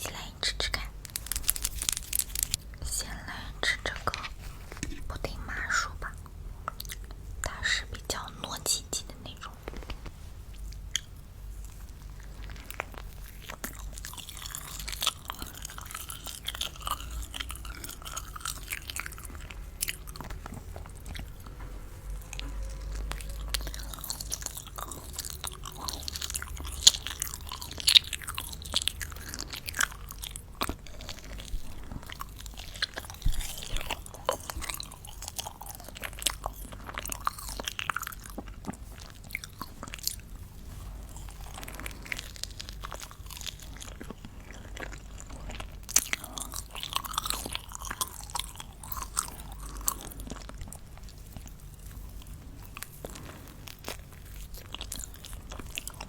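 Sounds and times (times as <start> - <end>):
crunchy chewing: 0.8 - 2.7, 9.4 - 56.0.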